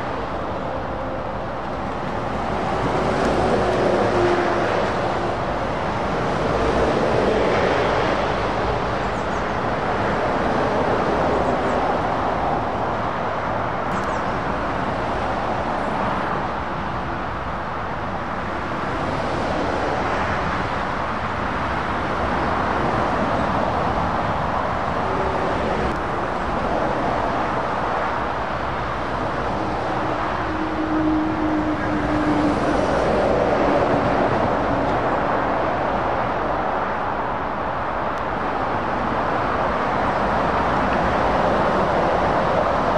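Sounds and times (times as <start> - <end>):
motorway traffic passing: 0.0 - 42.9.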